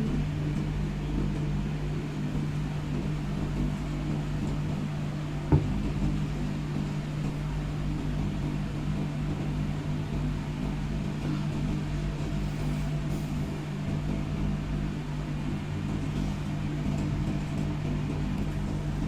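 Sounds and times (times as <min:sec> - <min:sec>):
machine hum with hiss: 0:00.0 - 0:19.0.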